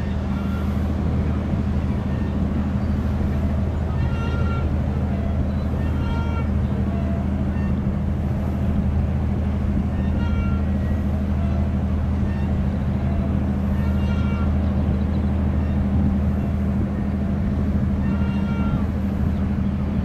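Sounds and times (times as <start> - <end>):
boat diesel engine droning: 0.0 - 20.0
gulls crying: 0.0 - 20.0.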